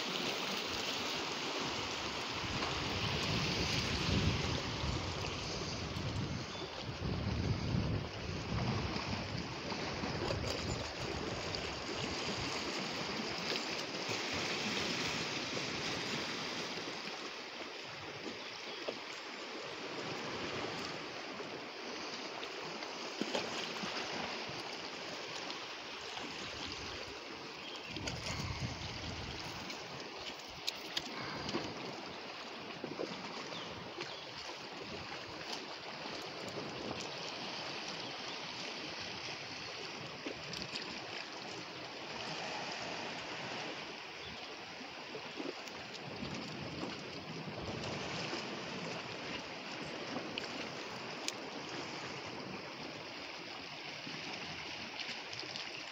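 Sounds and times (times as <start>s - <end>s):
small waves lapping on rocks: 0.0s - 55.9s.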